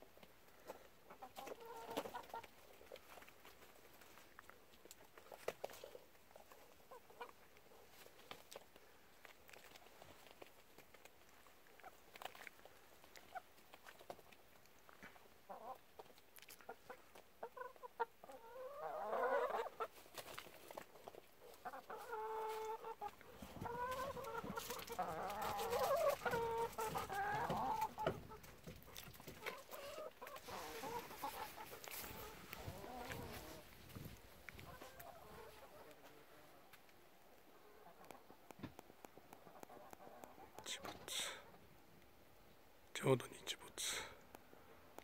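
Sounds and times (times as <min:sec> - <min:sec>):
hens clucking and squawking: 0:00.2 - 0:41.8.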